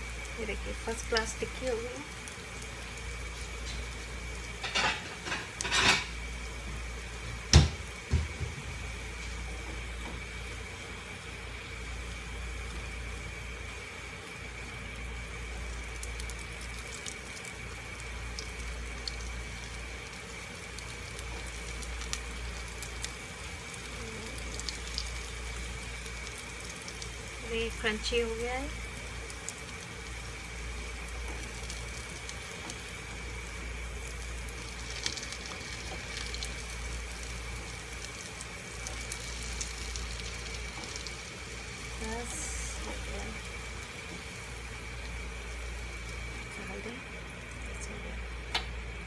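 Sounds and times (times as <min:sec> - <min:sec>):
oil sizzling in a pan: 0:00.0 - 0:49.0.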